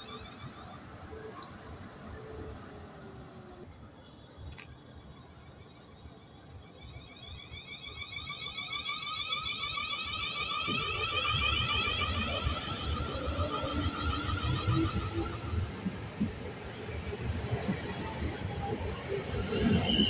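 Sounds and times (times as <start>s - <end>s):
electric train whine: 0.0s - 20.0s.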